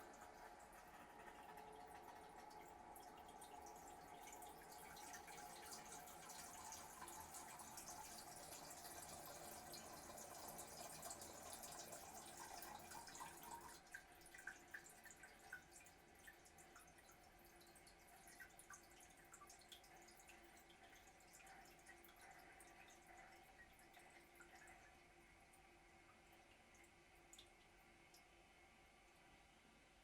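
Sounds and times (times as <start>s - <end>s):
water drips and trickles: 0.0s - 28.3s.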